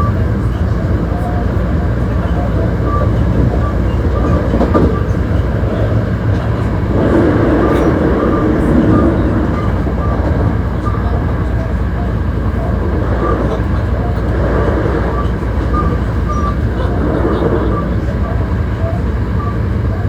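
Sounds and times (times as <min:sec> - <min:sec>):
light rail clicks: 0:00.0 - 0:20.0
train wheels rumbling on rail: 0:00.0 - 0:20.0.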